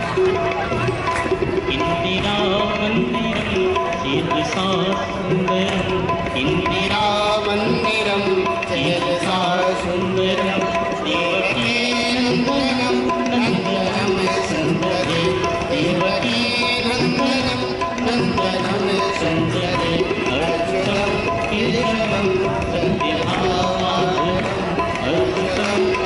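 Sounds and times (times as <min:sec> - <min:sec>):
person singing melody: 0:00.0 - 0:26.0
tabla and percussion: 0:00.0 - 0:26.0.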